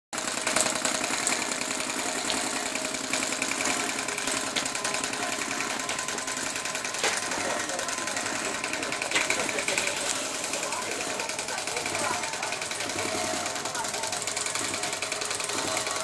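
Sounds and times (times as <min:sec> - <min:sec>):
engine mechanical clatter: 0:00.2 - 0:16.0.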